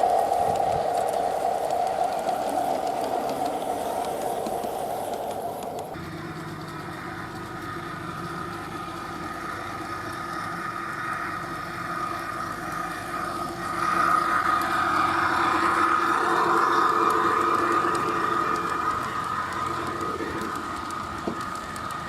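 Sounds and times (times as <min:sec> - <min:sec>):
model train humming and whining: 0:00.0 - 0:22.0.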